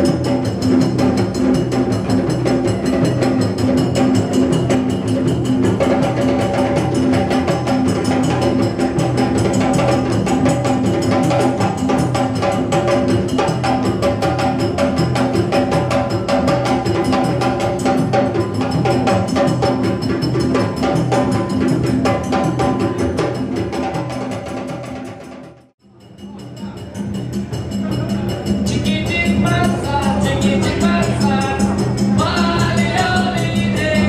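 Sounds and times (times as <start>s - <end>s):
djembe hand drums: 0.0s - 25.7s, 26.4s - 34.0s.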